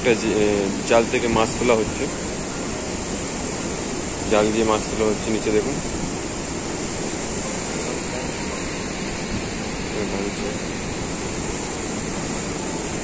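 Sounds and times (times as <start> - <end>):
water rushing below dam: 0.0 - 13.0.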